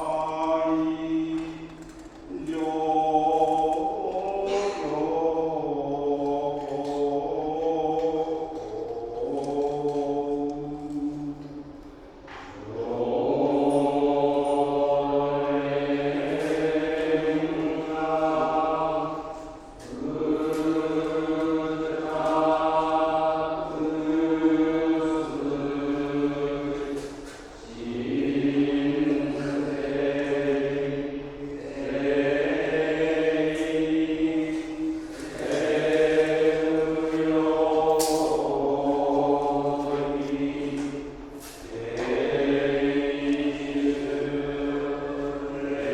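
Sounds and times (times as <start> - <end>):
monks chanting: 0.0 - 45.9.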